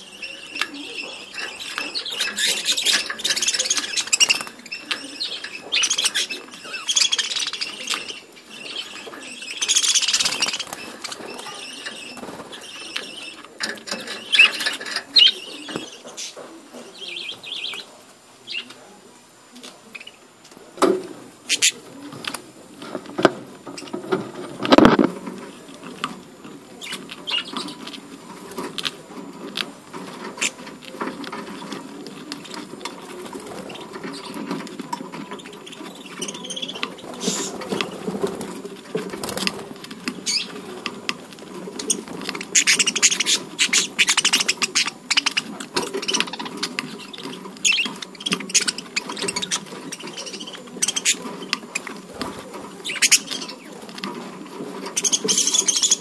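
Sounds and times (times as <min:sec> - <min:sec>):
budgerigars chattering and chirping: 0:00.0 - 0:18.8, 0:21.4 - 0:22.2, 0:23.6 - 0:56.0.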